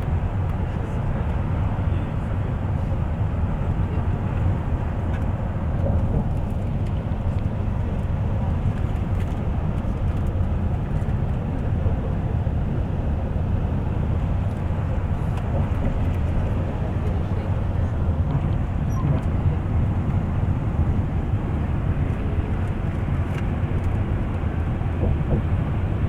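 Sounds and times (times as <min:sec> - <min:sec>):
bus engine rumble: 0:00.0 - 0:26.0.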